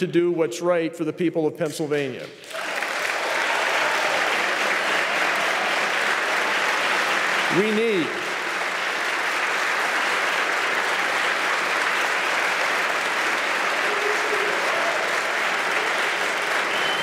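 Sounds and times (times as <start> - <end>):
audience applause: 2.3 - 17.0.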